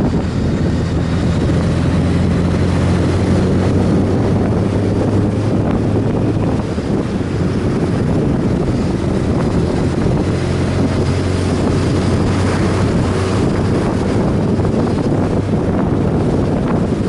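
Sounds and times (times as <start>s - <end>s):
motorcycle engine hum: 0.0s - 17.0s
wind rushing over microphone: 0.0s - 17.0s.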